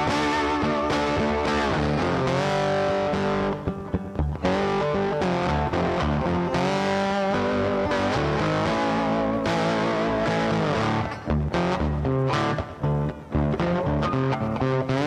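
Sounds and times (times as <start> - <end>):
rock music with distorted guitar: 0.0 - 15.0.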